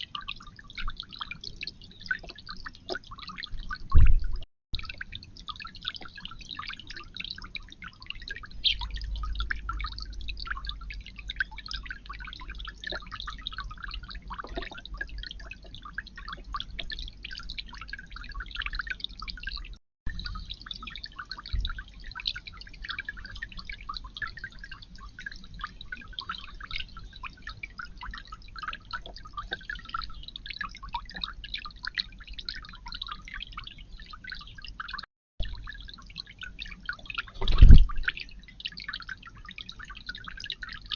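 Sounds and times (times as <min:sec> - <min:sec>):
water dripping in fountain: 0:00.0 - 0:40.9.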